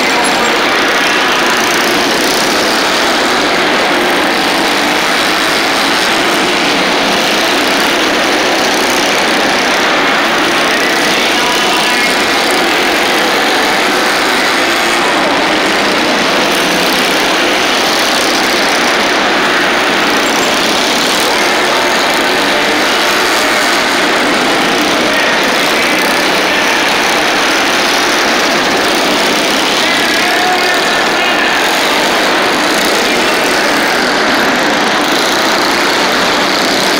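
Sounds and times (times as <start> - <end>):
minibike engines racing: 0.0 - 36.9.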